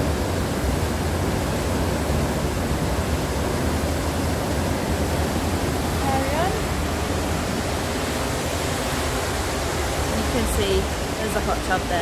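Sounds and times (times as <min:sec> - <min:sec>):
churning sea wake: 0:00.0 - 0:12.0.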